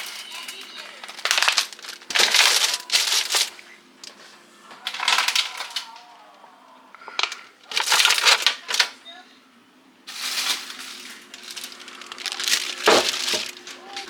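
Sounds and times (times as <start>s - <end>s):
plastic bags crinkling: 0.0s - 9.2s, 10.0s - 14.0s.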